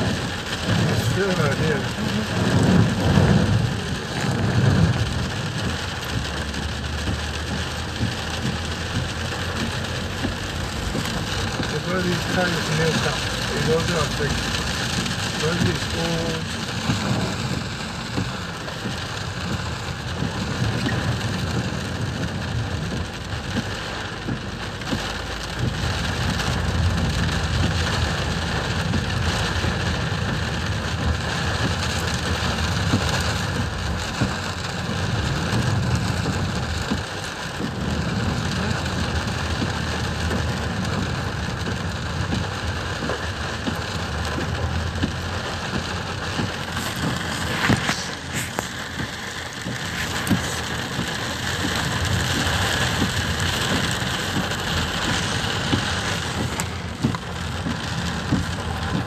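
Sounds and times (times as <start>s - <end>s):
car driving low rumble: 0.0s - 59.0s
rain drumming on car roof: 0.0s - 59.0s.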